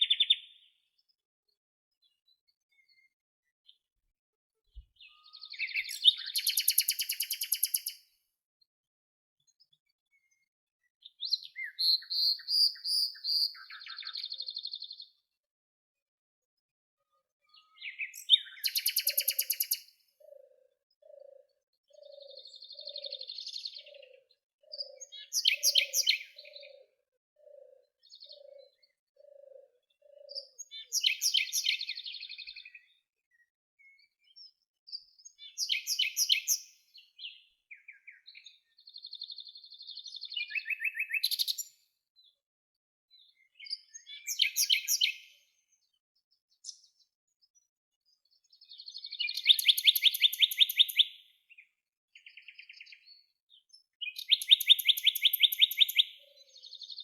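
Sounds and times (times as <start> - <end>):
songbird singing: 0.0 - 8.2, 9.4 - 15.4, 17.0 - 42.4, 43.1 - 57.0.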